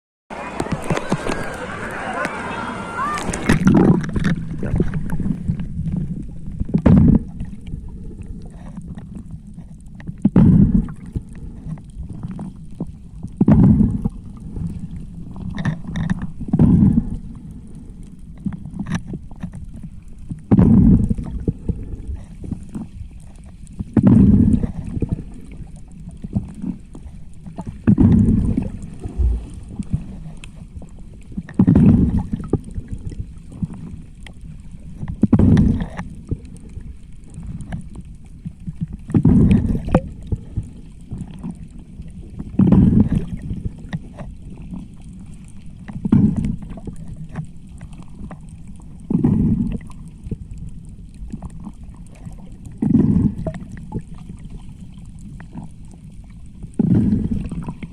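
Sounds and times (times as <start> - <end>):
exhaled air bubbling underwater: 0.3 - 57.9
steady underwater hiss: 0.3 - 57.9.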